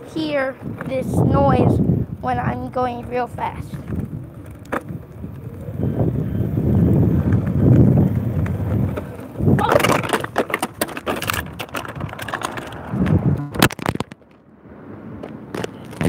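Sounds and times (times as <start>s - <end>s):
hoverboard wheels rumbling: 0.0s - 16.0s.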